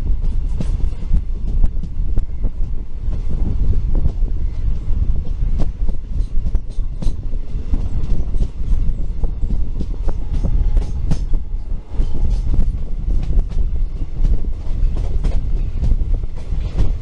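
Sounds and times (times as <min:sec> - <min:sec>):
train rumbling: 0:00.0 - 0:17.0
wheels clattering on rails: 0:00.0 - 0:17.0.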